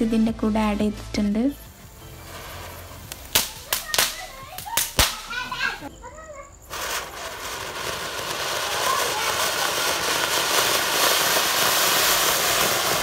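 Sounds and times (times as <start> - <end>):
firework fountain hissing: 0.7 - 13.0.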